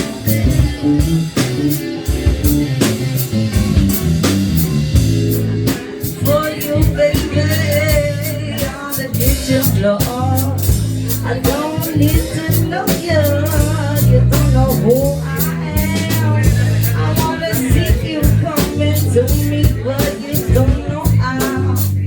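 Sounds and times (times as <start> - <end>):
drum kit: 0.0 - 22.0
guitar: 0.0 - 22.0
low bass line: 0.0 - 22.0.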